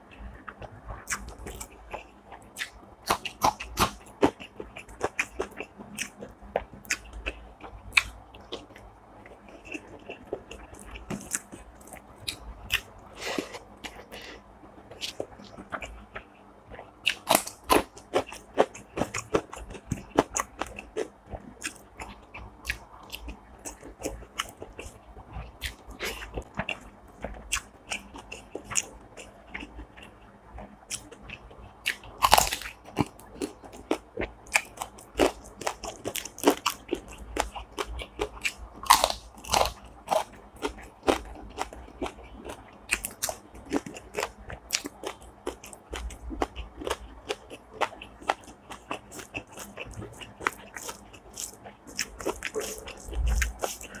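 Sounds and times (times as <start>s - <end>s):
person chewing crisp food: 0.1s - 54.0s.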